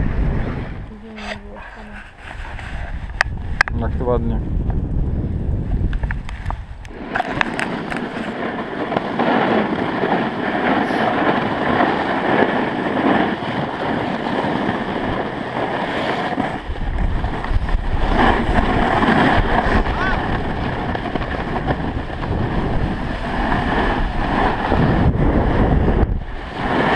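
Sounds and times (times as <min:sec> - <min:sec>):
snowboard scraping on snow: 0:00.0 - 0:03.3, 0:06.9 - 0:26.9
wind rumble on microphone: 0:00.0 - 0:26.9.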